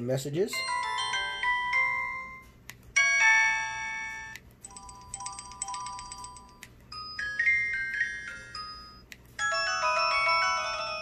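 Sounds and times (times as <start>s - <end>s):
electronic chime melody: 0.5s - 11.0s
multi-note chime: 0.5s - 11.0s.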